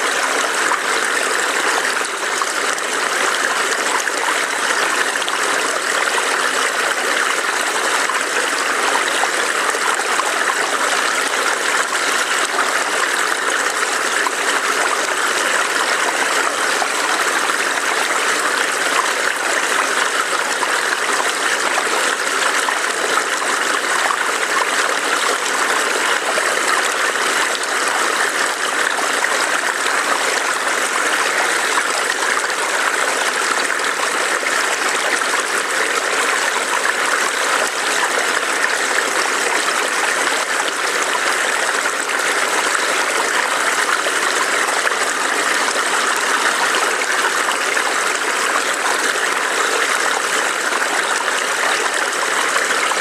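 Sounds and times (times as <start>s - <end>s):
stream trickling over rocks: 0.0s - 53.0s.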